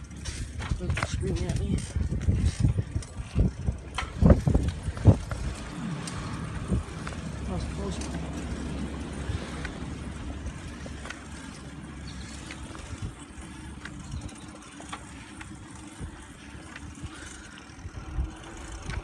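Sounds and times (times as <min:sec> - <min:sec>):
bicycle tyre noise: 0:00.0 - 0:19.0
bike clicks and rattles: 0:00.0 - 0:19.0
wind rumble on microphone: 0:00.0 - 0:19.0.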